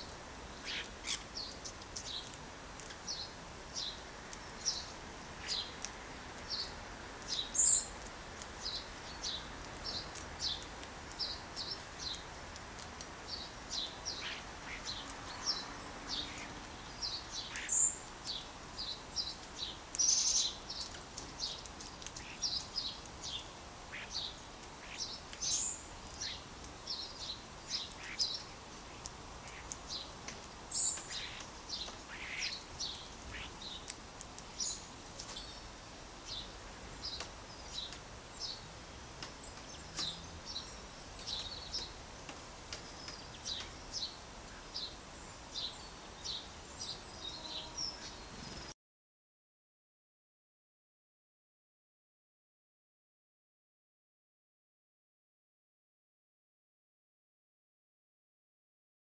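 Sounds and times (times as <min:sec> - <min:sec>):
background hiss: 0:00.0 - 0:48.8
songbirds chirping: 0:00.0 - 0:48.8.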